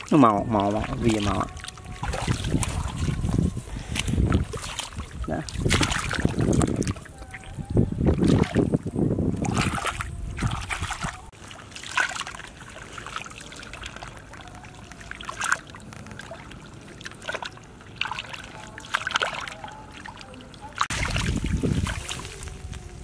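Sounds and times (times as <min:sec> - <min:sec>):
hands splashing in muddy water: 0:00.0 - 0:07.4, 0:09.4 - 0:23.0.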